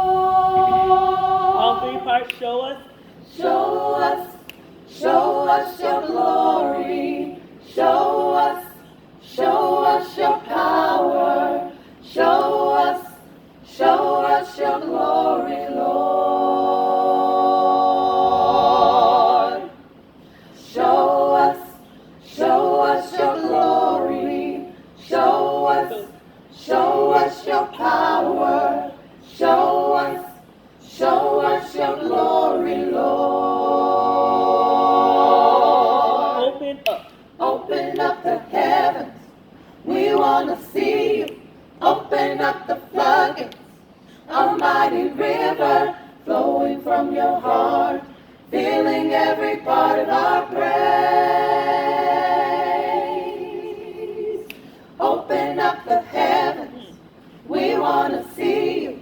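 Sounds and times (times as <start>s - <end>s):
voices singing unaccompanied: 0.0s - 2.4s, 3.2s - 59.0s.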